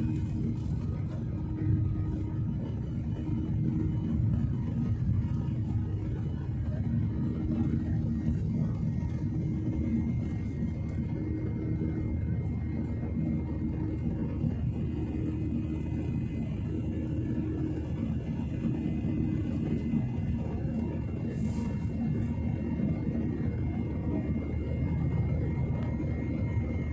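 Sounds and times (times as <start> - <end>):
aircraft engines rumbling: 0.0 - 26.9
thin steady whine: 0.0 - 26.9.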